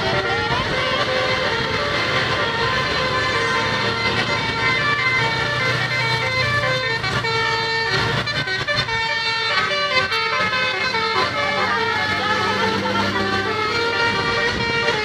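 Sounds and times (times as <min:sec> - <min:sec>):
low engine hum: 0:00.0 - 0:15.0
musical horn playing a tune: 0:00.0 - 0:15.0.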